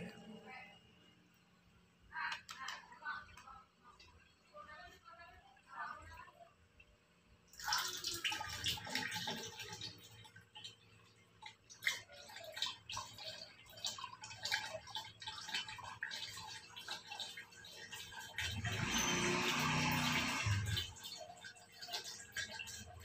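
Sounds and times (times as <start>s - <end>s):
water trickling into a plastic jug: 2.2s - 23.0s.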